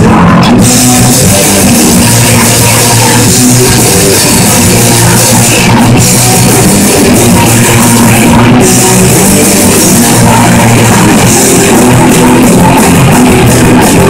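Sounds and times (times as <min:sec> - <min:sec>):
bass guitar: 0:00.0 - 0:14.0
distorted electric guitars: 0:00.0 - 0:14.0
drum kit: 0:00.0 - 0:14.0
woman singing: 0:01.0 - 0:14.0.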